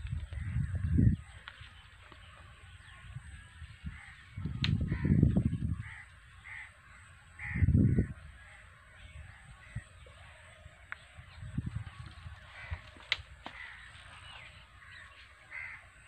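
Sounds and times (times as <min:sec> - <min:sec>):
crows cawing: 0:00.3 - 0:10.0, 0:12.2 - 0:16.0.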